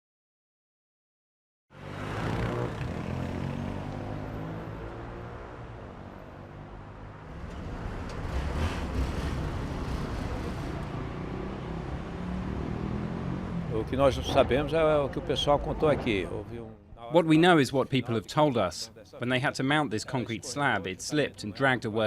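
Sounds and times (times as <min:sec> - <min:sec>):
street traffic: 0:01.7 - 0:22.0.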